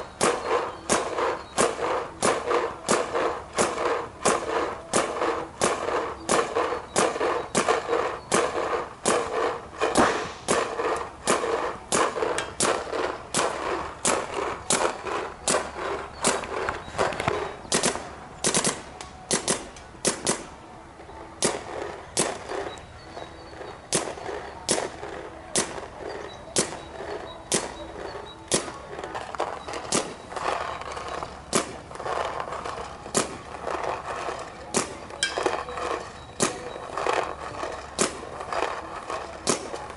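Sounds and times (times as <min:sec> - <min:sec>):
paintball markers firing: 0:00.0 - 0:20.6, 0:21.4 - 0:39.9.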